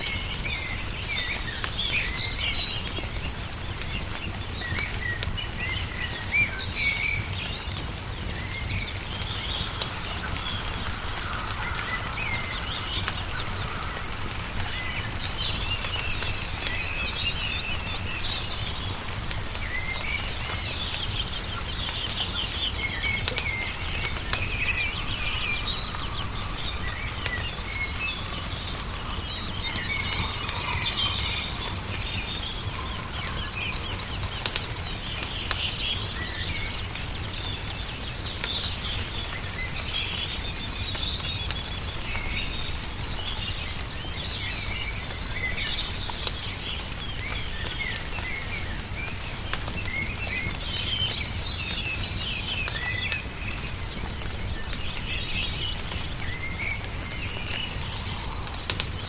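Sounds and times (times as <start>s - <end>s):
crackling fire with pops: 0.0s - 59.0s
songbirds chirping and singing: 0.0s - 59.0s.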